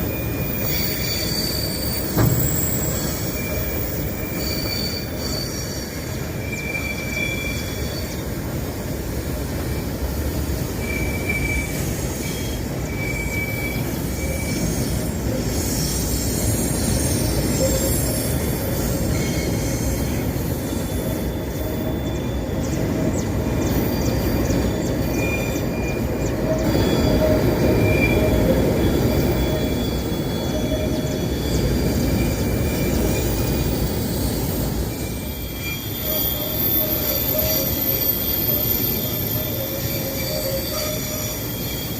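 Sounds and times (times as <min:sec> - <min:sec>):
high-pitched wheel squeals: 0:00.0 - 0:08.6, 0:09.6 - 0:41.9
diesel locomotive rumbling: 0:00.0 - 0:41.9.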